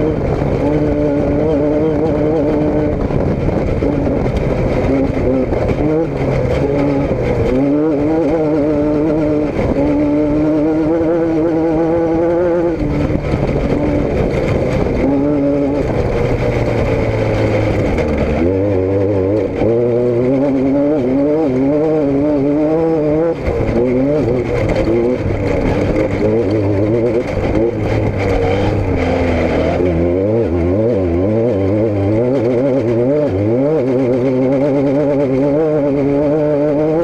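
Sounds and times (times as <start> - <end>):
vehicle engines revving: 0.0 - 37.0.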